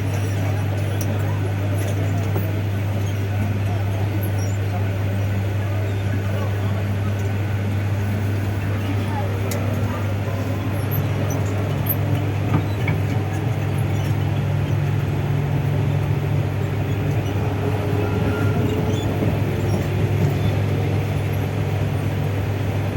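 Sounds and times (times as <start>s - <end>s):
electric train motors whirring: 0.0s - 22.9s.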